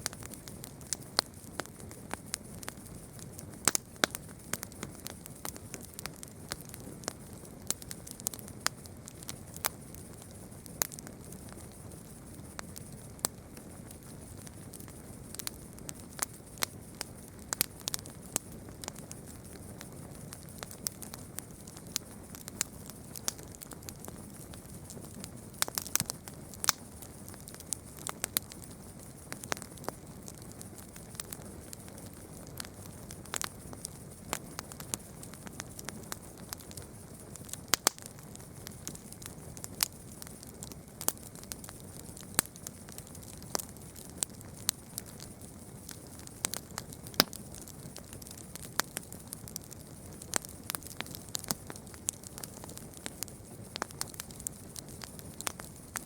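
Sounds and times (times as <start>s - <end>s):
campfire crackling and popping: 0.0s - 56.0s
low hiss of flames: 0.0s - 56.0s.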